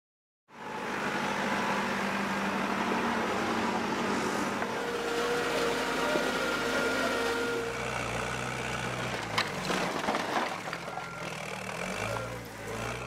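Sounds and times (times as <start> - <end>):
heavy diesel engine running: 0.5 - 13.0.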